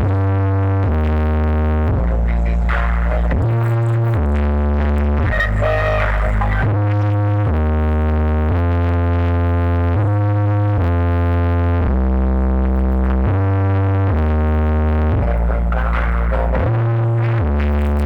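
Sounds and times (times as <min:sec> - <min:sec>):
bass-heavy synthesizer music: 0:00.0 - 0:18.0.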